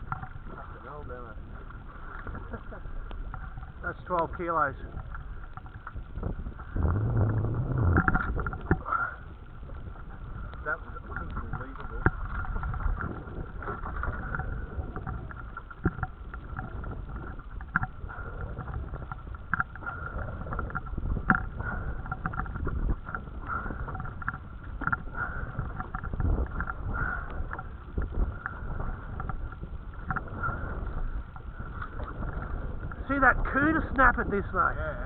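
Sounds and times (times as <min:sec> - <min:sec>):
water lapping against hull: 0:00.0 - 0:35.0
wind on microphone: 0:00.0 - 0:35.0.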